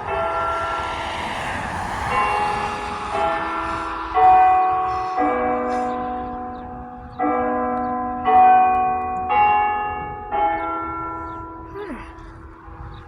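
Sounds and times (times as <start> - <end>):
church bells chiming: 0.0 - 1.2, 2.1 - 13.0.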